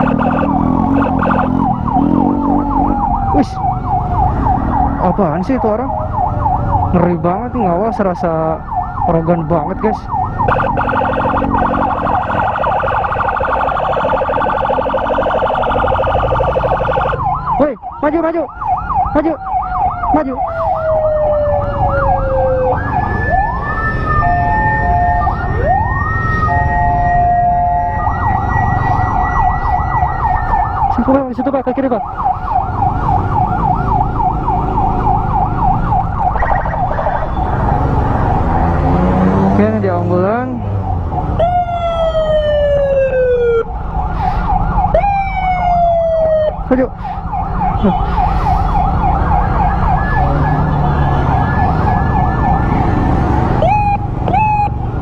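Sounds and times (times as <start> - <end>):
rapid pulsing electronic siren: 0.0 - 39.1, 40.5 - 55.0
faint wailing siren: 0.0 - 55.0
motorcycle and road noise: 0.0 - 55.0.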